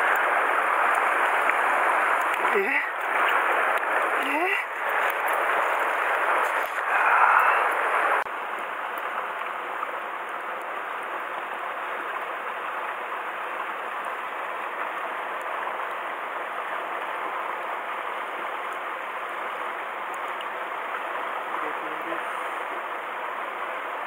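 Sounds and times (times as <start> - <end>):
stream flowing over stones: 0.0 - 24.0.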